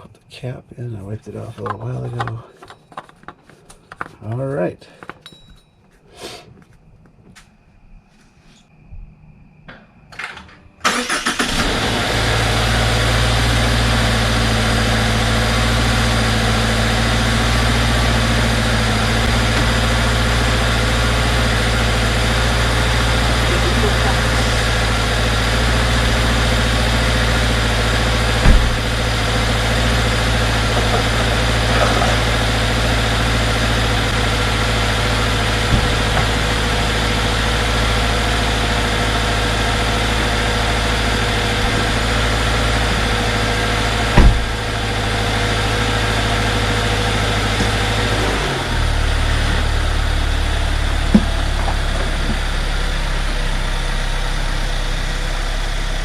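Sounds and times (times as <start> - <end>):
car engine idling: 10.8 - 56.0.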